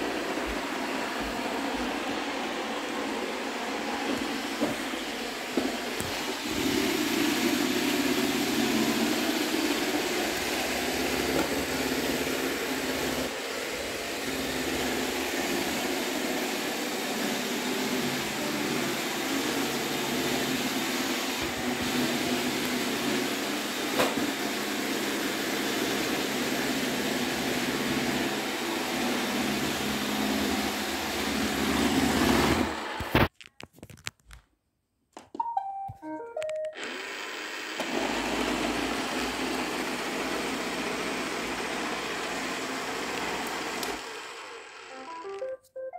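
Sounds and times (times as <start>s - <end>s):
robot vacuum whirring: 0.0s - 33.3s, 36.7s - 45.5s.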